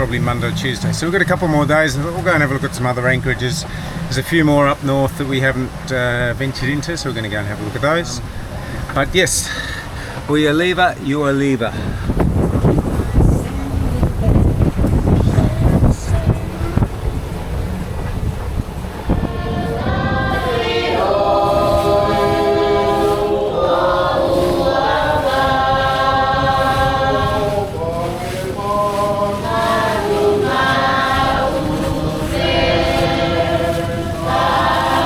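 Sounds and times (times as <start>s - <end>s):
choir singing held chords: 0.0s - 35.0s.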